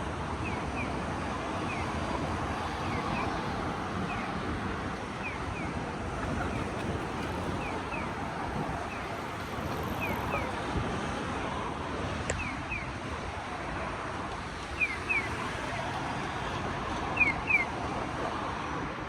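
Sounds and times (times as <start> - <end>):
city street traffic hum: 0.0 - 19.0.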